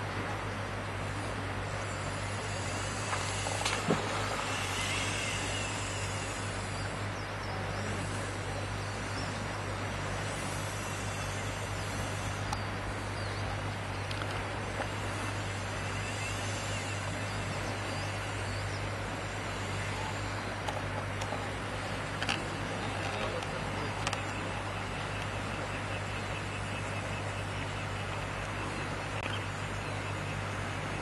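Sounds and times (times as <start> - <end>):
constant low hum: 0.0 - 31.0.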